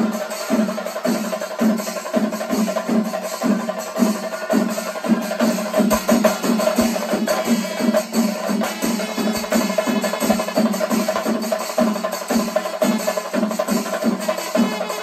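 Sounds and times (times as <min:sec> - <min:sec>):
drums beaten in unison: 0:00.0 - 0:15.0.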